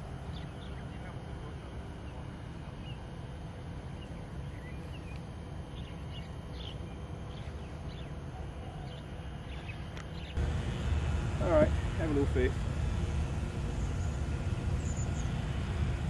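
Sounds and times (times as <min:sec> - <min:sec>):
low background rumble: 0:00.0 - 0:16.0
birds chirping: 0:00.2 - 0:16.0.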